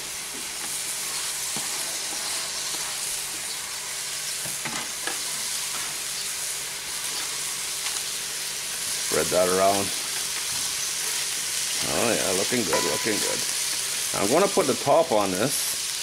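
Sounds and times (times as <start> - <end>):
food sizzling in a skillet: 0.0 - 16.0.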